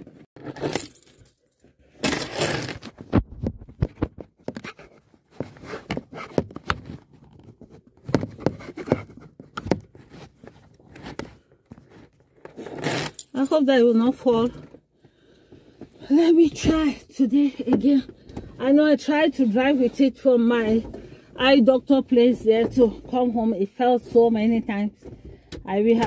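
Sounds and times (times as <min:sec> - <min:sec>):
phone handling rustling and scraping: 0:00.0 - 0:26.0.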